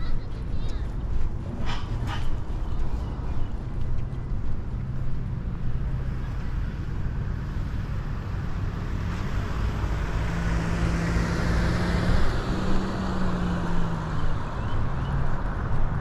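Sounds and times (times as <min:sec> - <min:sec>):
steady traffic noise: 0:00.0 - 0:16.0
motor vehicle driving past: 0:01.4 - 0:16.0.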